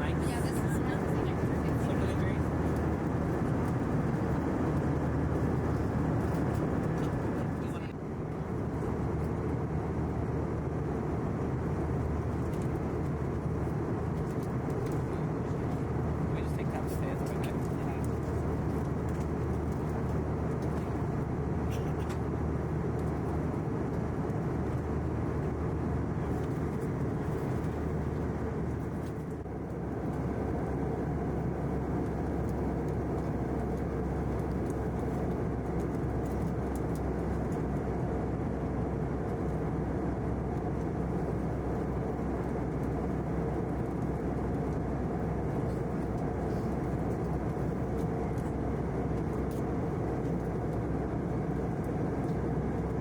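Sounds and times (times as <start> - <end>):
airliner cabin drone: 0.0 - 53.0.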